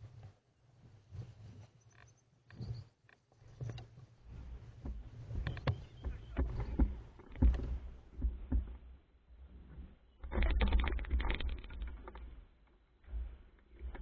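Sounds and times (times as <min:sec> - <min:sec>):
boat knocks and clatter: 0:02.5 - 0:14.0.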